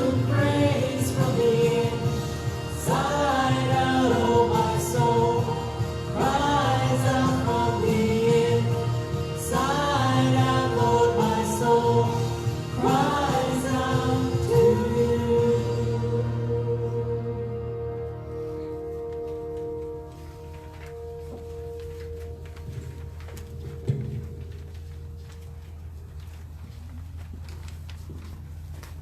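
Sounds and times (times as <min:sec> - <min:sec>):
worship singing: 0:00.0 - 0:25.8
sustained accompaniment: 0:00.0 - 0:26.6.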